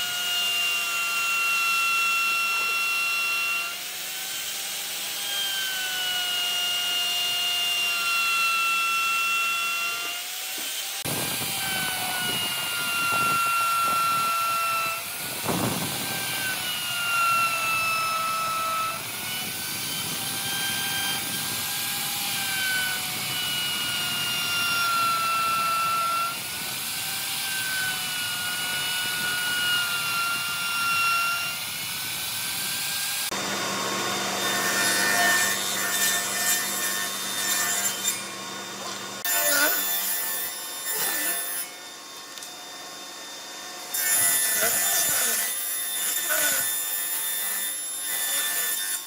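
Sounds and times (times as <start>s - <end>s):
power tool motor whine: 0.0s - 49.0s
wood cutting or sanding hiss: 1.8s - 41.7s.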